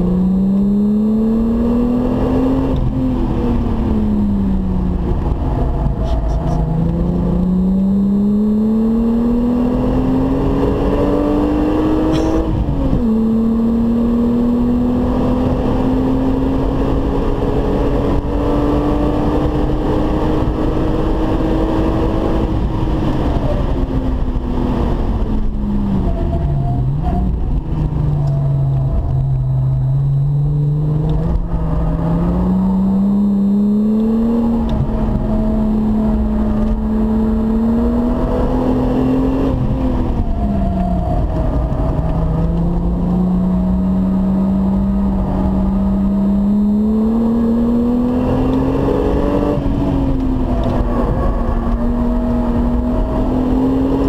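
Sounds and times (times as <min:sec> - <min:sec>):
car engine at full throttle: 0:00.0 - 0:54.0.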